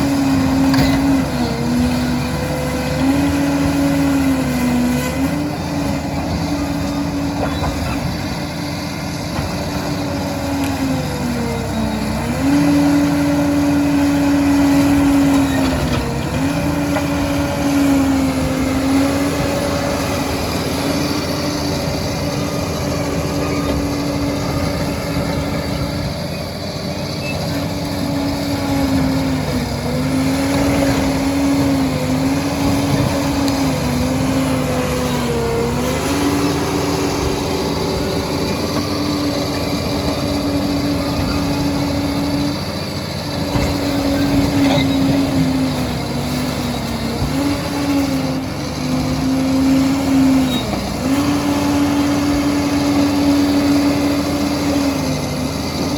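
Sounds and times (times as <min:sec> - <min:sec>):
bulldozer diesel engine under load: 0:00.0 - 0:55.9.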